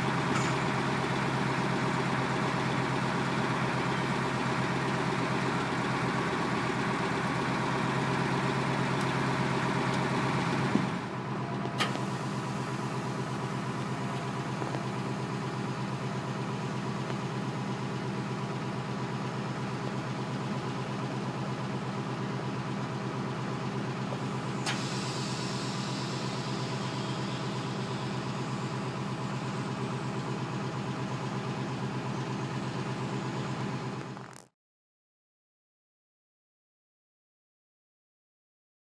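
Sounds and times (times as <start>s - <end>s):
truck engine idling: 0.0s - 34.3s.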